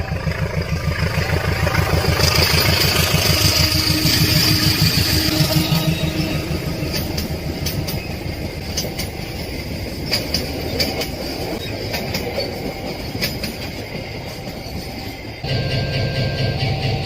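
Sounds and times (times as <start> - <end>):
wheels clicking over rail joints: 0.0 - 15.5
train wheels rumbling on rail: 0.0 - 17.0.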